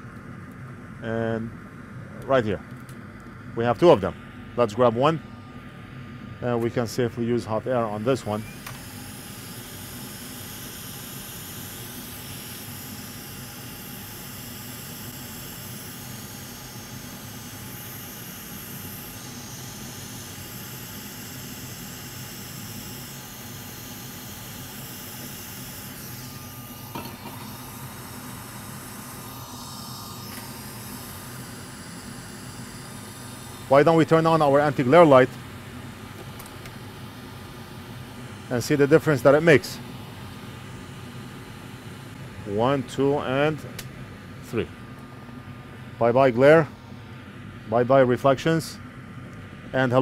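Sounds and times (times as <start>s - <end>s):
hot air blower: 6.1s - 47.7s.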